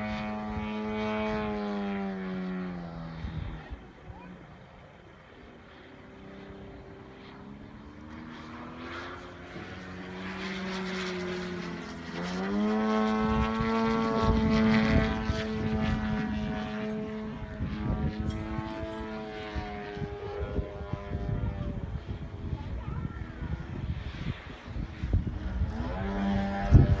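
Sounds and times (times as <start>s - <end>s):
model airplane engine and propeller: 0.0s - 27.0s.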